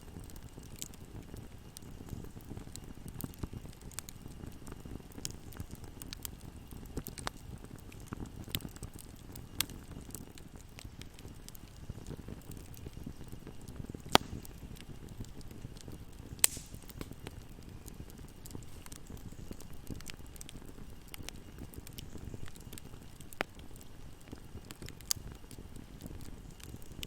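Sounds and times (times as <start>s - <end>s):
fire crackling and popping: 0.0s - 27.0s
fire rumbling in fireplace: 0.0s - 27.0s.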